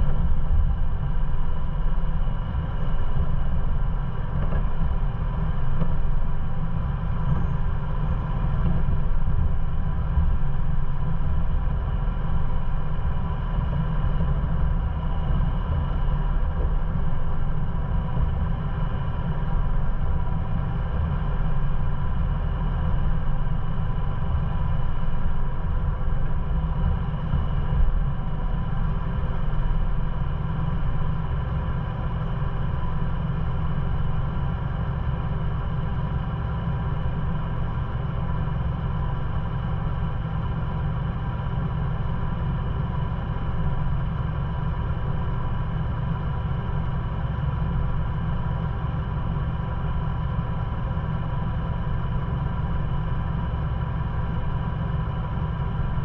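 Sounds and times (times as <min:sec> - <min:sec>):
engine running at low revs: 0:00.0 - 0:56.0.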